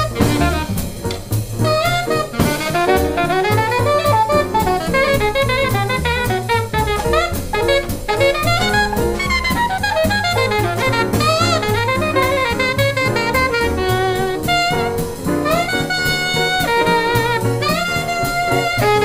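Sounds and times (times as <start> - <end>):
drums with cymbals: 0.0 - 19.0
piano: 0.0 - 19.0
saxophone soloing: 0.0 - 19.0
upright bass: 0.0 - 19.0.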